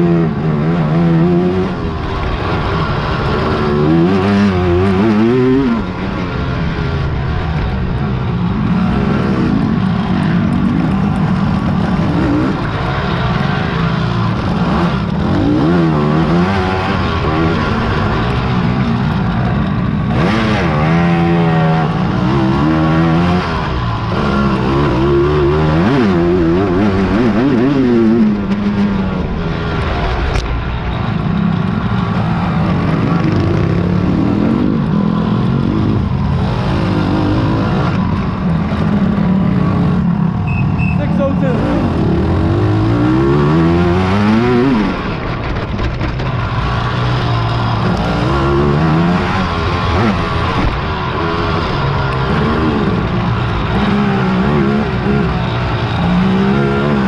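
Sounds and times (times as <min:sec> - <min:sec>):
quad engines revving: 0:00.0 - 0:57.0.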